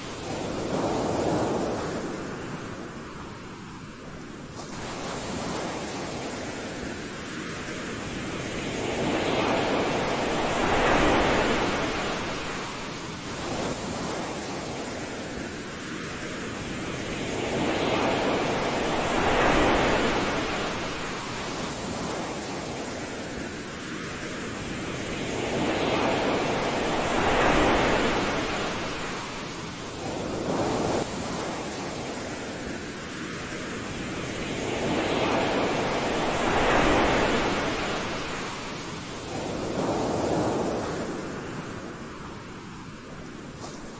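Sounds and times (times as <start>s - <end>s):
ocean surf washing on beach: 0.0s - 43.9s.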